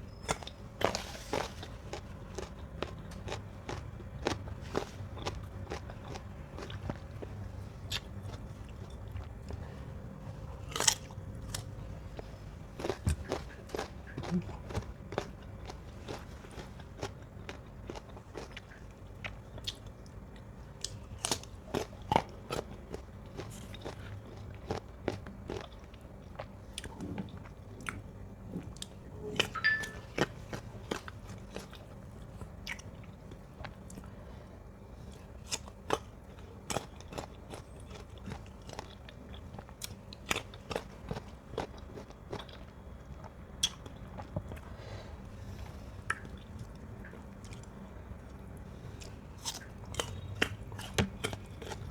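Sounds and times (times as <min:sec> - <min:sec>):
crunchy biting and chewing: 0:00.1 - 0:34.2, 0:34.8 - 0:44.8, 0:45.4 - 0:51.9.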